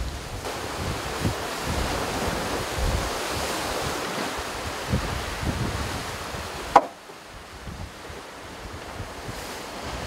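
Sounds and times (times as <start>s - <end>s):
water rushing along a hull: 0.0s - 10.0s
wind buffeting the microphone: 0.0s - 10.0s.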